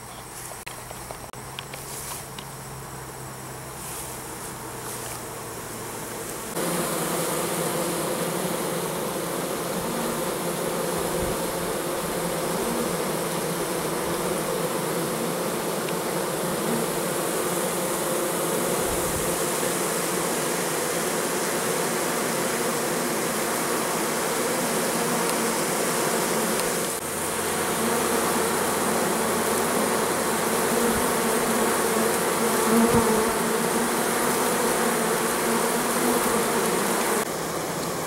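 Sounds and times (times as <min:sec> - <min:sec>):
honey bees buzzing: 0:00.0 - 0:38.0.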